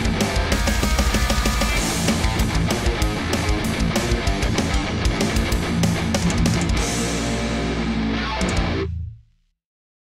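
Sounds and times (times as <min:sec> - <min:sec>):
heavy metal music: 0:00.0 - 0:09.2.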